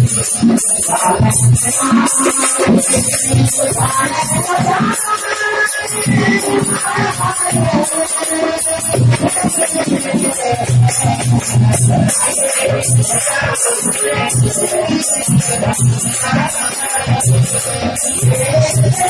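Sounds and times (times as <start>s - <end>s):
drum strokes: 0.0s - 19.0s
jingling hand percussion: 0.0s - 19.0s.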